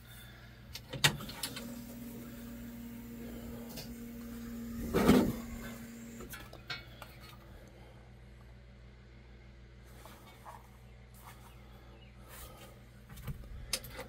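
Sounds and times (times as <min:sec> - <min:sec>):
faint electric hum: 0:00.0 - 0:14.0.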